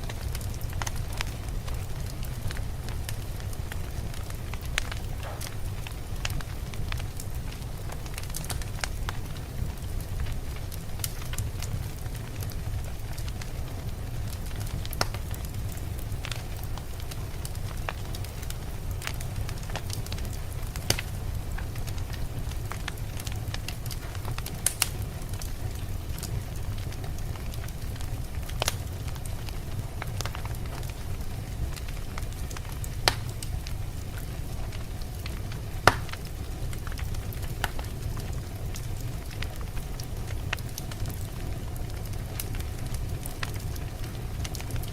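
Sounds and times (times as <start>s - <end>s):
low rumble of wind: 0.0s - 44.9s
wood fire crackling and popping: 0.0s - 44.9s.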